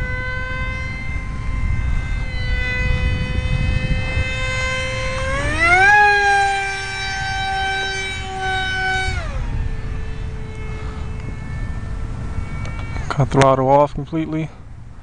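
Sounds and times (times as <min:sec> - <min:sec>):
electric motor whining: 0:00.0 - 0:13.7.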